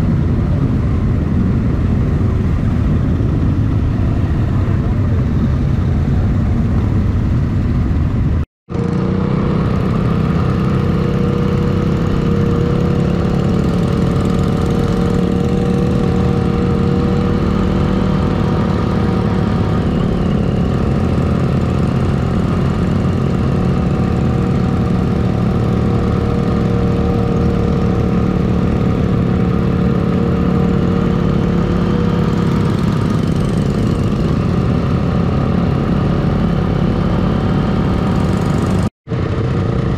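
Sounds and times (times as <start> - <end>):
motorcycle engines droning: 0.0 - 39.9.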